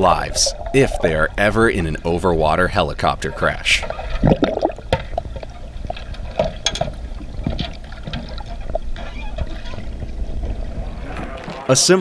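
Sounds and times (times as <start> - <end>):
underwater bubbling and gurgling: 0.0 - 11.7.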